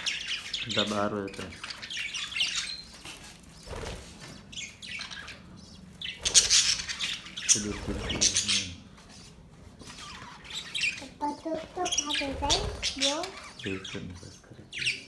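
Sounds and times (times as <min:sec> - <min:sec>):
budgerigars chirping and squawking: 0:00.0 - 0:15.0.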